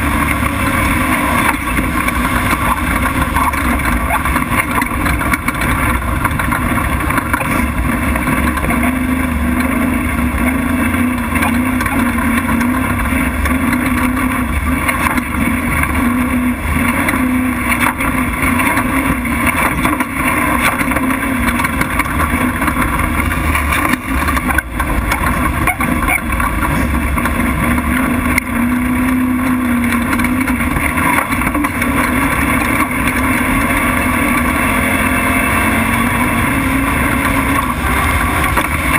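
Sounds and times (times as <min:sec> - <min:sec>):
race truck engine droning: 0:00.0 - 0:38.9
rumble from rough ground: 0:00.0 - 0:38.9
wind: 0:00.0 - 0:38.9.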